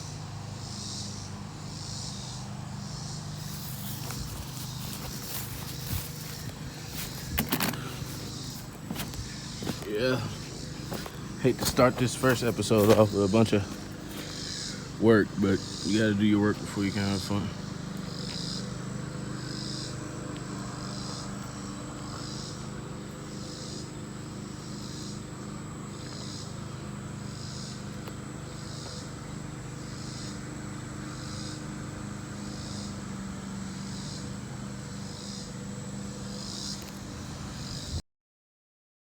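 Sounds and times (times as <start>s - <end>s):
low mechanical hum: 0.0s - 38.0s
pulsing high-pitched insect call: 0.0s - 38.0s.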